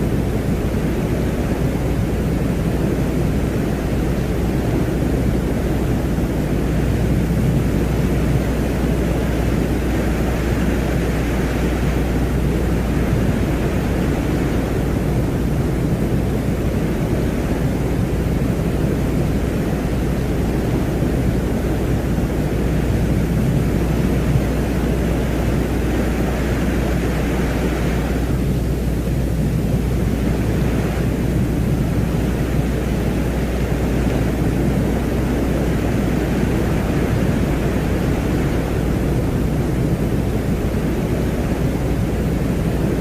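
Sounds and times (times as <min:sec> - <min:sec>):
deep rumbling wind-like drone: 0:00.0 - 0:43.0.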